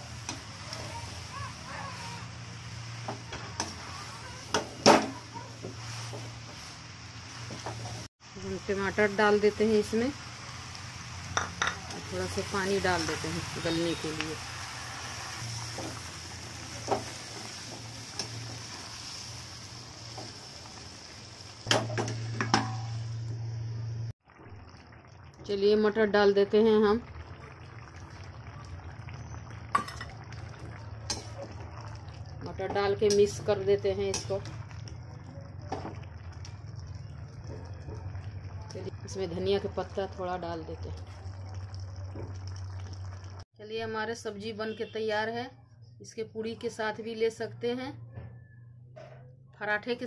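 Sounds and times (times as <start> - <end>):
curry sizzling in a metal pan: 0.0 - 43.5.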